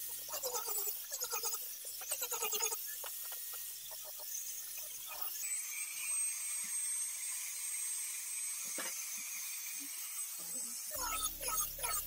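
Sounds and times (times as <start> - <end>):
power tool whining: 0.0 - 12.0.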